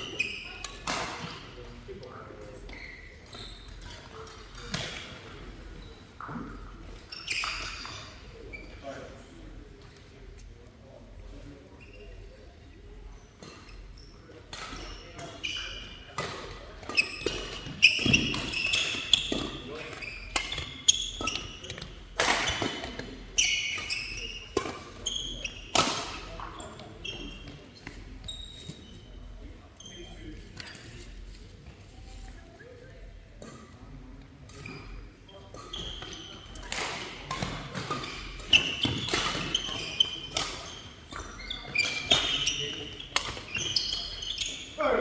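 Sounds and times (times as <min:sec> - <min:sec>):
shoes squeaking on court floor: 0:00.0 - 0:09.4, 0:11.2 - 0:33.8, 0:34.5 - 0:45.0.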